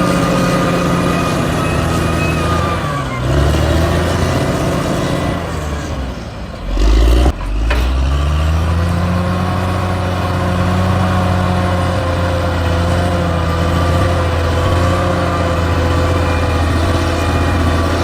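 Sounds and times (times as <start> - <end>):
heavy diesel engine: 0.0 - 18.0.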